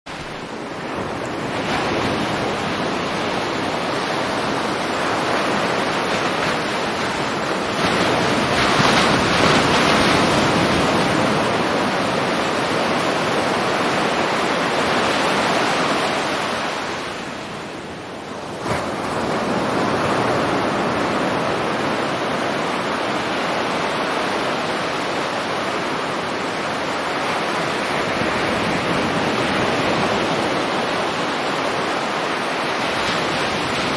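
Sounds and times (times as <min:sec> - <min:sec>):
ocean waves surf: 0:00.1 - 0:33.9.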